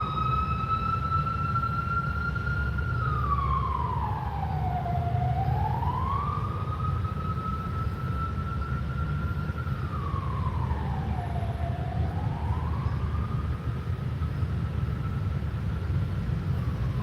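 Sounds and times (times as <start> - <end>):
siren wailing: 0.0 - 15.4, 16.0 - 17.0.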